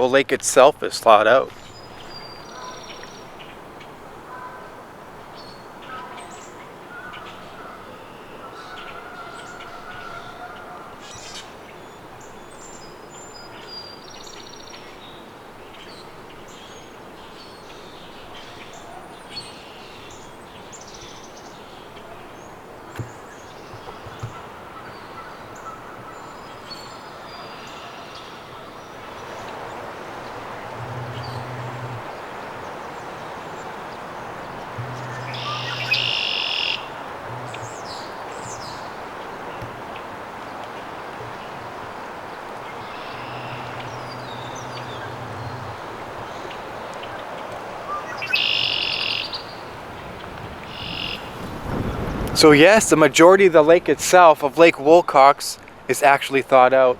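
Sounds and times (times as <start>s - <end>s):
steady background hiss: 0.0s - 56.9s
low bird calls: 1.5s - 52.3s
small birds chirping: 1.5s - 52.5s.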